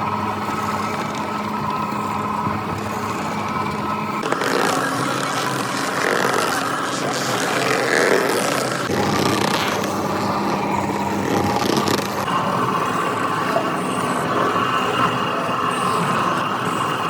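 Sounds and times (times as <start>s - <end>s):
mill machinery drone and clatter: 0.0s - 17.0s.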